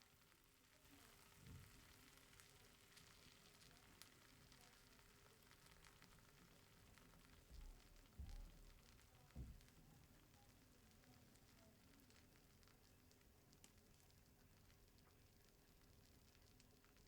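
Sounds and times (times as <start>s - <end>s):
eggs sizzling in a pan: 0.0s - 17.0s.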